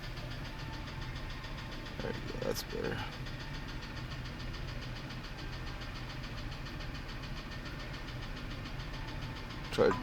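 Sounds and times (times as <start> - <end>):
engine idling with rapid ticking: 0.0 - 10.0.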